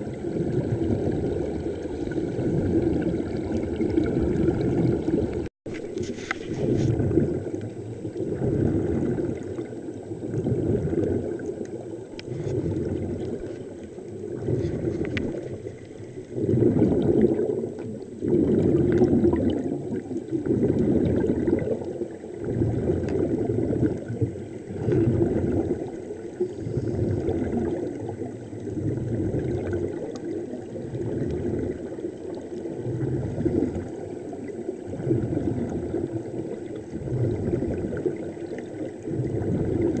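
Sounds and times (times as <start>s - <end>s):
air bubbling underwater: 0.0s - 40.0s.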